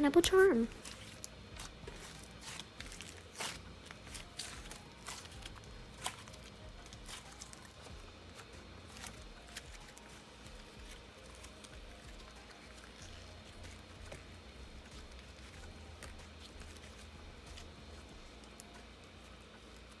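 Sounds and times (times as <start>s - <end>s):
fingers working sticky slime: 0.0s - 20.0s.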